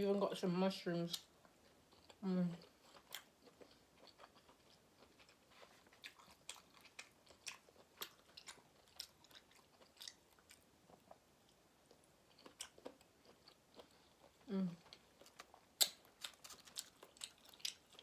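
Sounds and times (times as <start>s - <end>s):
person chewing food: 1.2s - 18.0s.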